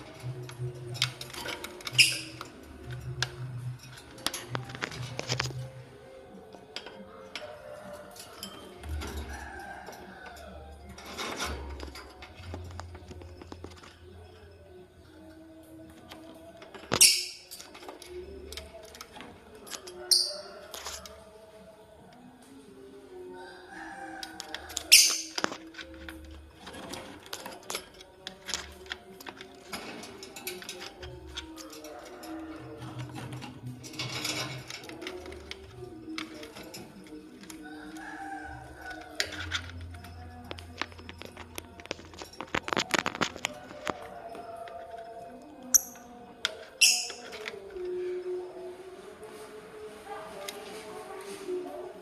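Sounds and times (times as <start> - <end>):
soft background music: 0.0 - 52.0.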